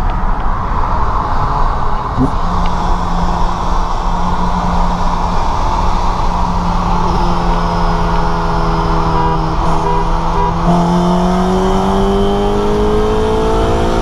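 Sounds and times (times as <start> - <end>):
car engine drone: 0.0 - 14.0
higher engine note: 1.7 - 14.0.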